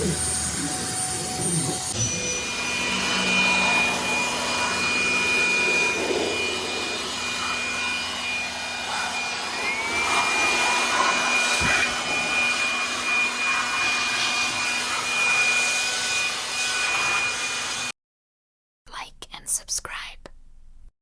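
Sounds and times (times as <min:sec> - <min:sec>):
rising whine: 0:00.0 - 0:17.6
vacuum cleaner running: 0:00.0 - 0:17.9.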